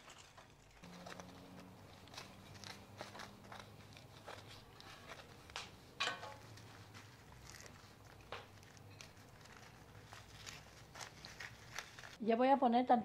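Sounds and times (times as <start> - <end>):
dried chiles crackling: 0.0 - 12.2.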